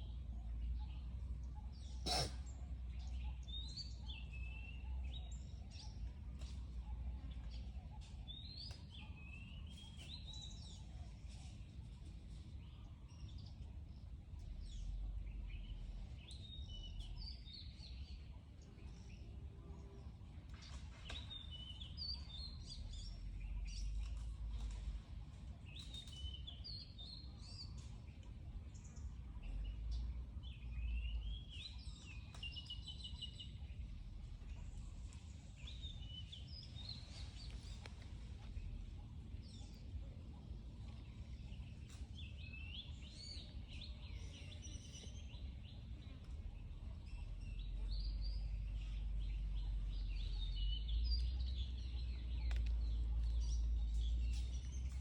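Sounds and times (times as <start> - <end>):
low rumble of outdoor ambience: 0.0 - 55.0
small birds chirping: 0.0 - 55.0.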